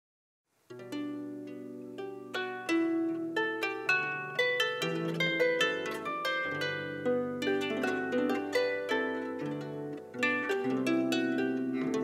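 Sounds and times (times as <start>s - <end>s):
harp playing: 0.7s - 12.0s.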